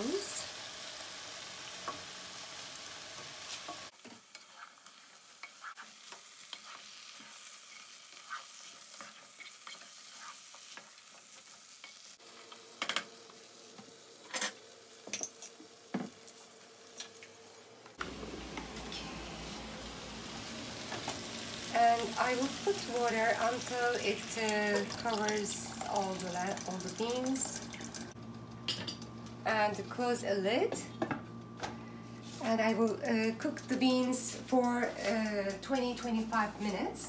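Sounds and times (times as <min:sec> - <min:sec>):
beans sizzling in a pot: 0:00.0 - 0:29.9.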